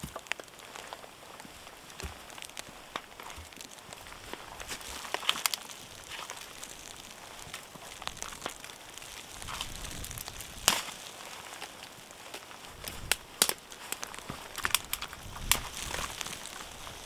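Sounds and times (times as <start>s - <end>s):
twigs rustling: 0.0s - 17.0s
twigs snapping: 0.0s - 17.0s.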